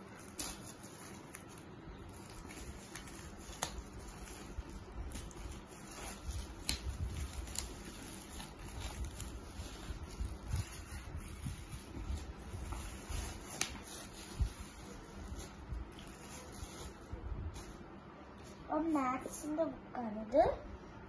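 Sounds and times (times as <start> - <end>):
paper rustling: 0.0 - 18.6.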